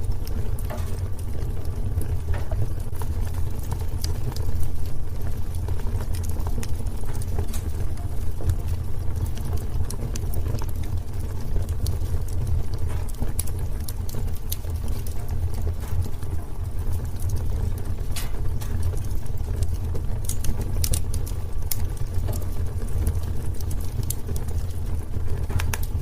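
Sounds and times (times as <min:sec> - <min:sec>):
fire rumbling: 0:00.0 - 0:26.0
wood crackling and popping: 0:00.0 - 0:26.0.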